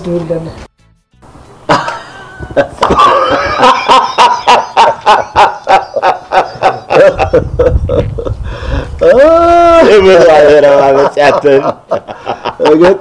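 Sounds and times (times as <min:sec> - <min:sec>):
person laughing hard: 0:01.7 - 0:13.0.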